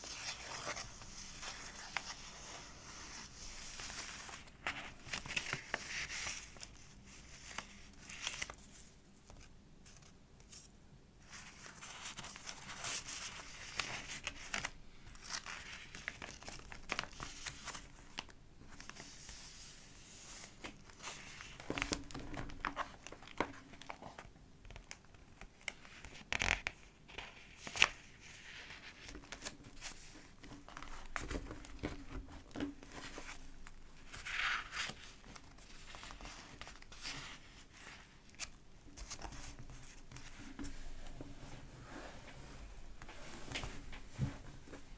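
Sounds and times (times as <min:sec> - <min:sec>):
paper pages rustling: 0:00.0 - 0:41.0.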